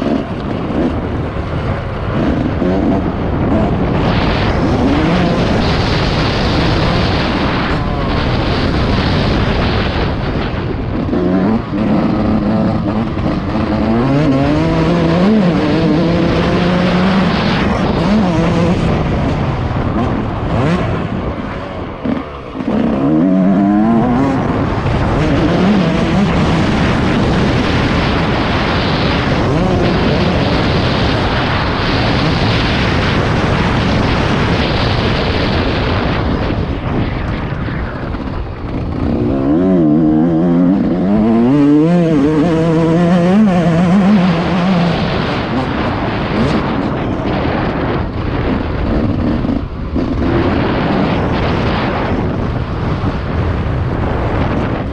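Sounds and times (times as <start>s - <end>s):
two-stroke motorcycle engine revving: 0.0s - 54.9s.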